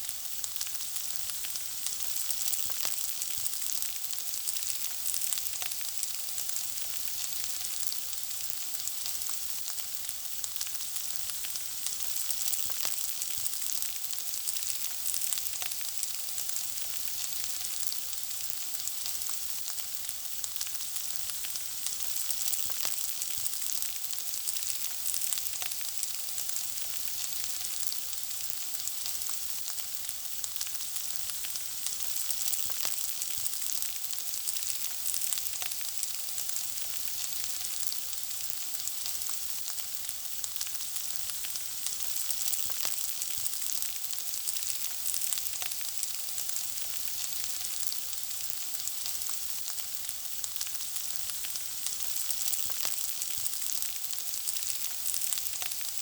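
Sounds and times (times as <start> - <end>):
food frying in hot oil: 0.0 - 56.0.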